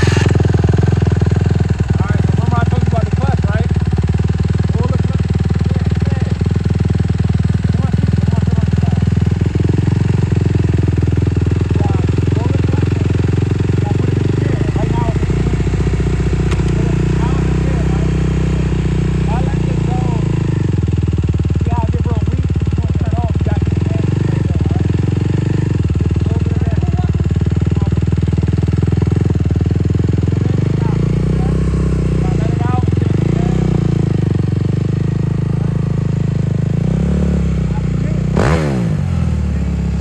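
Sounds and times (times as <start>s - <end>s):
dirt bike engine idling: 0.0s - 40.0s.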